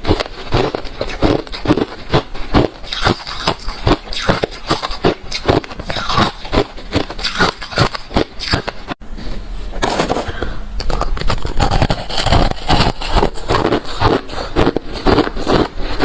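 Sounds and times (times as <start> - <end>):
ice being chewed: 0.0 - 8.8, 10.8 - 16.0.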